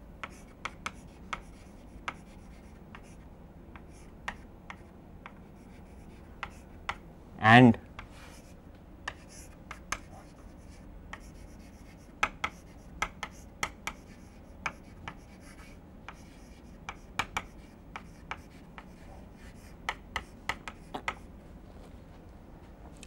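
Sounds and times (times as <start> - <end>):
chalk tapping and scratching on chalkboard: 0.2 - 7.0, 8.0 - 21.3.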